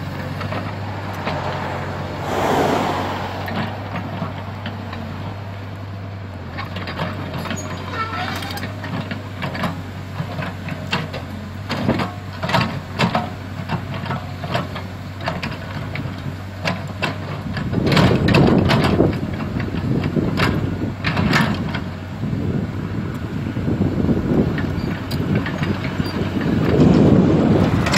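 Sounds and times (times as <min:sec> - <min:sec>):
excavator diesel engine humming: 0:00.0 - 0:27.9.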